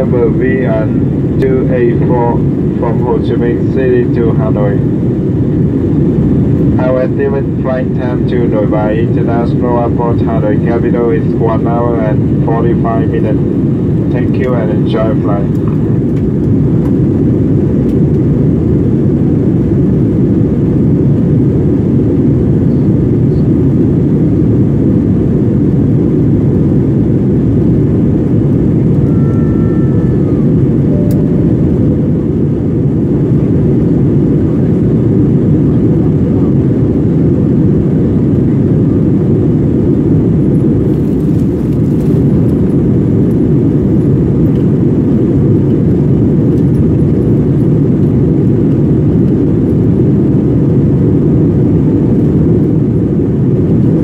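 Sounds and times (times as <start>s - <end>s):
jet engines roaring: 0.0s - 54.0s
rushing air in cabin: 0.0s - 54.0s.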